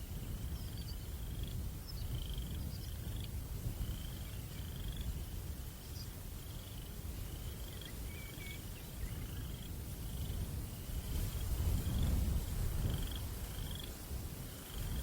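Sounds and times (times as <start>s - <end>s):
crickets chirping: 0.0s - 15.0s
low wind rumble: 0.0s - 15.0s.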